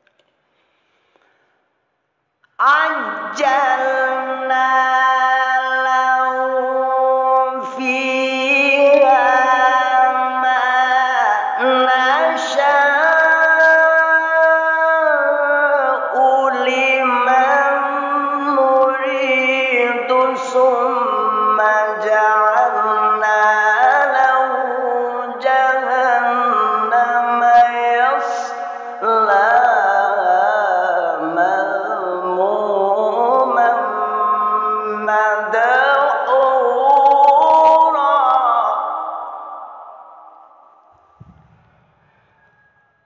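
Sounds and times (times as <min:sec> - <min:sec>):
man reciting melodically: 0:02.6 - 0:39.7.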